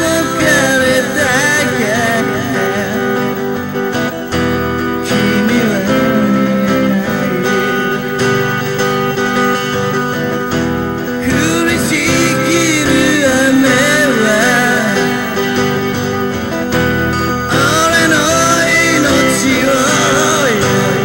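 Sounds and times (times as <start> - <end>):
person singing: 0.0 - 9.0, 11.0 - 21.0
acoustic guitar chords: 0.0 - 21.0.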